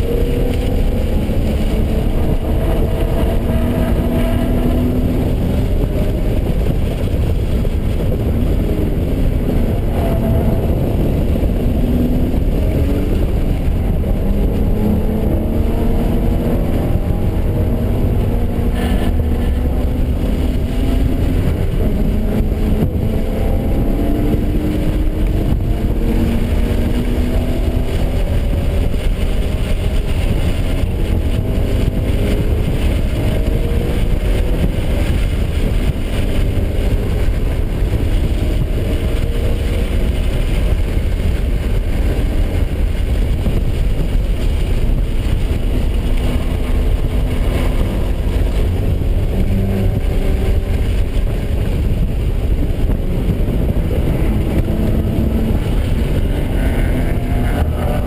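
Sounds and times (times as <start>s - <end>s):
car engine revving through gears: 0.0s - 58.0s
wind and road noise: 0.0s - 58.0s.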